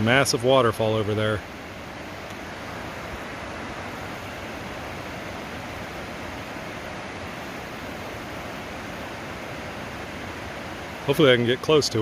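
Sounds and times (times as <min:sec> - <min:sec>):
whitewater rushing: 0:00.0 - 0:12.0.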